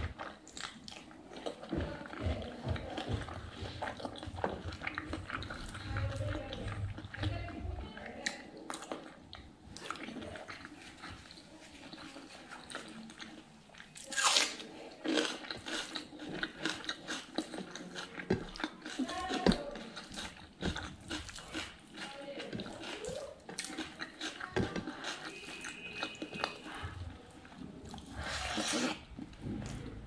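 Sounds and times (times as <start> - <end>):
wet chewing and crunching: 0.0 - 30.0.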